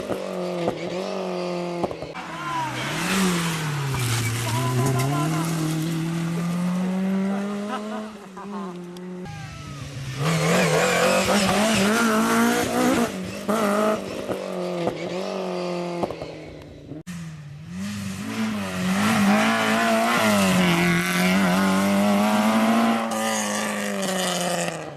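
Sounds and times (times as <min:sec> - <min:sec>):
rally car engines revving: 0:00.0 - 0:24.9.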